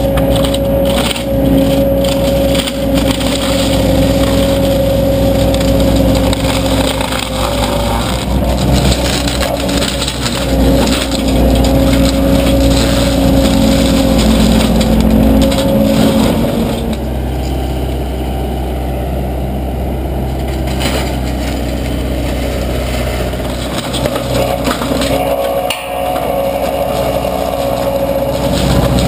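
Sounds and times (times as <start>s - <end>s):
hydraulic machine drone: 0.0s - 29.0s
wood crackling being shredded: 0.0s - 29.0s.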